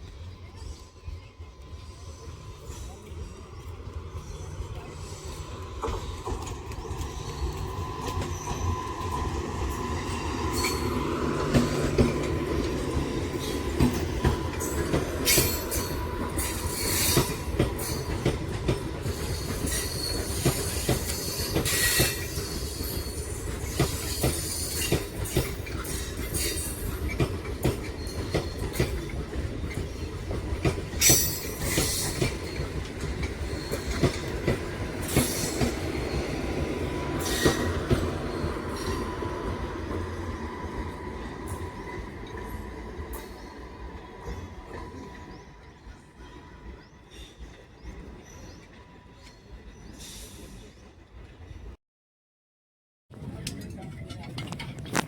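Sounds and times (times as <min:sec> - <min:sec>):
train wheels rumbling on rails: 0:00.0 - 0:51.7, 0:53.1 - 0:55.0
rail joint clacks: 0:02.2 - 0:45.4, 0:53.2 - 0:55.0.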